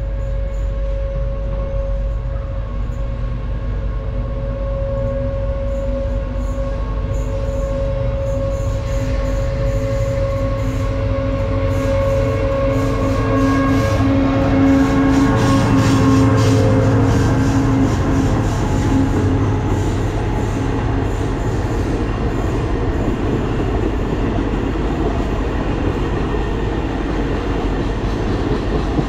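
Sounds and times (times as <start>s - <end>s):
locomotive engine droning: 0.0s - 29.0s.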